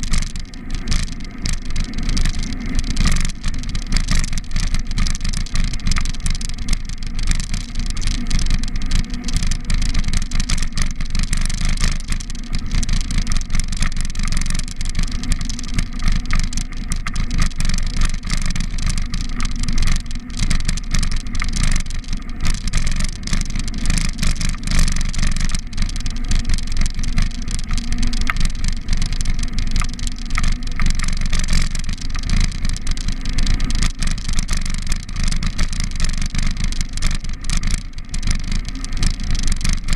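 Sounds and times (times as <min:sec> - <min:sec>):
bicycle tyre road noise: 0:00.0 - 0:39.9.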